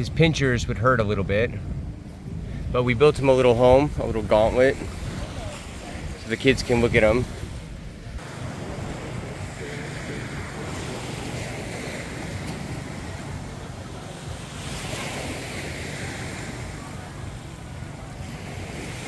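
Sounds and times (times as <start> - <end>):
wind buffeting microphone: 0.0 - 19.0
surf washing onto beach: 1.9 - 19.0.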